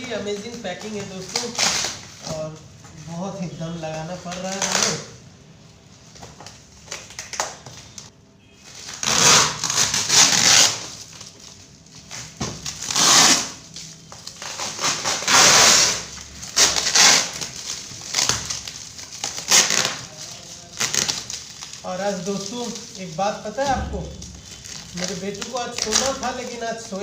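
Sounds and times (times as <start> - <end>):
packaging tearing and rustling: 0.0 - 5.2, 6.0 - 27.0.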